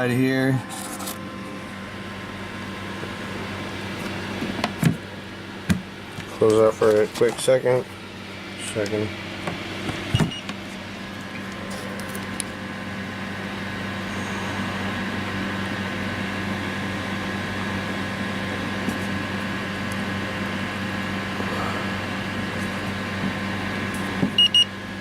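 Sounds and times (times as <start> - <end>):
cooling fans humming: 0.0 - 25.0.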